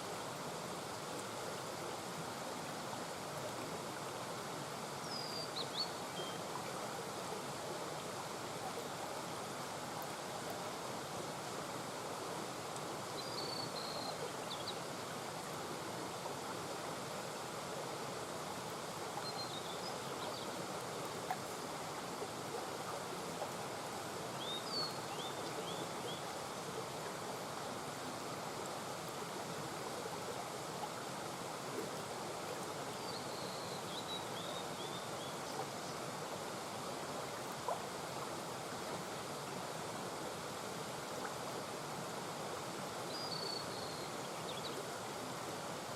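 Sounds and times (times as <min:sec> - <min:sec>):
brook flowing: 0:00.0 - 0:45.9.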